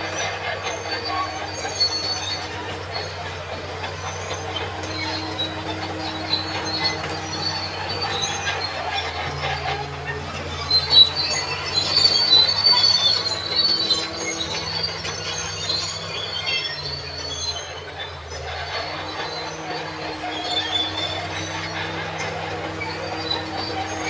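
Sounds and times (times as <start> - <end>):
diesel engine running: 0.0 - 24.0
steel tracks squealing: 0.0 - 24.0.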